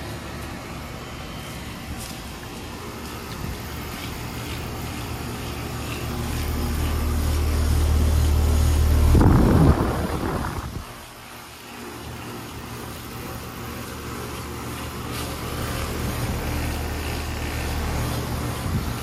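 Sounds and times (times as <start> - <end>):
heat pump humming: 0.0 - 19.0.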